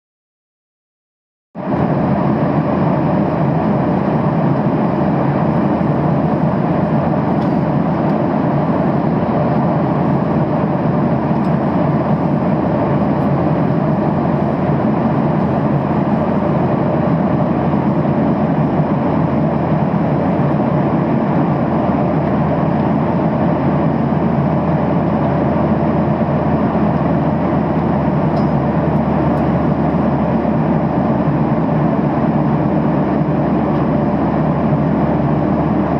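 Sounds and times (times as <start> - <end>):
airplane cabin airflow and engine drone: 1.6 - 35.9.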